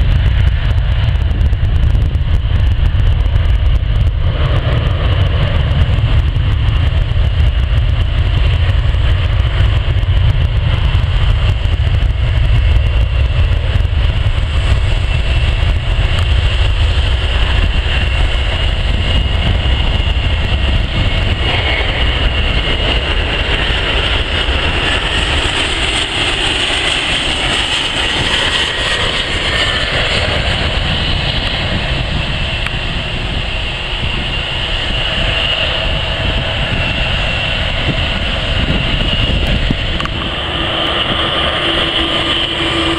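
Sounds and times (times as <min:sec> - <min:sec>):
jet engine rumble and whine: 0:00.0 - 0:42.9.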